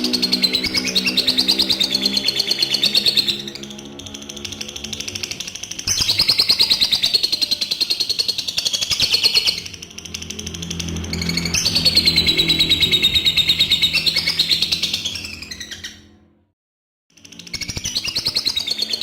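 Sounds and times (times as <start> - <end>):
lovebird chattering trill: 0.0 - 16.0.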